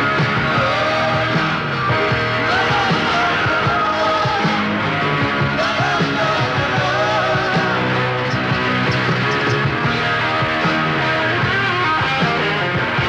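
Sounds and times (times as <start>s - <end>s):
rock song with singer and band: 0.0s - 13.0s.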